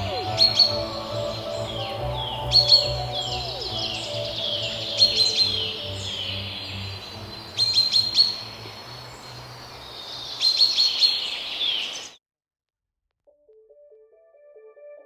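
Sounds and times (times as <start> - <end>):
birds chirping and whistling: 0.0 - 12.2.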